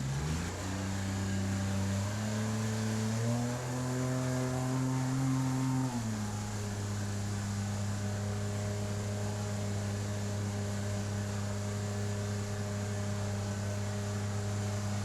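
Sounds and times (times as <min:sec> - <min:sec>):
jet boat motor humming: 0:00.1 - 0:15.0.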